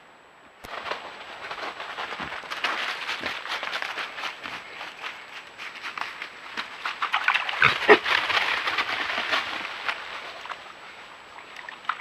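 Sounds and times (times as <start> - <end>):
dry leaves crackling and rustling: 0.7 - 11.1.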